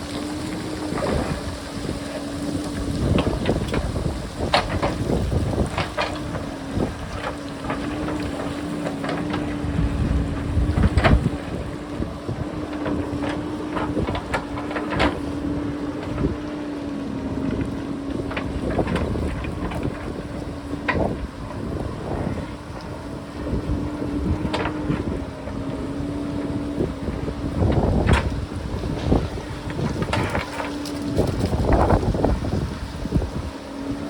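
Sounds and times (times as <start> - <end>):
diesel engine humming: 0.0 - 34.0
wind buffeting microphone: 0.0 - 34.0.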